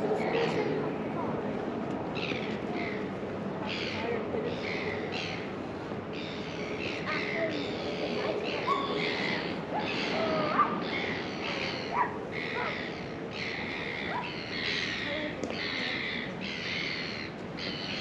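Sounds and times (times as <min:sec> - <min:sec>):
background hubbub: 0:00.0 - 0:18.0
birds calling: 0:02.2 - 0:18.0.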